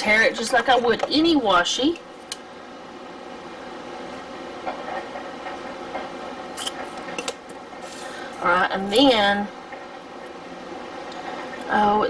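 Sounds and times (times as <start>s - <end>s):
washing machine hum: 0.0s - 12.0s.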